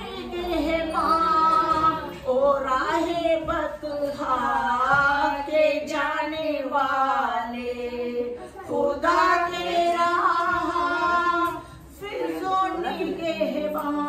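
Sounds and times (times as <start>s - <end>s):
women singing together unaccompanied: 0.0s - 14.0s.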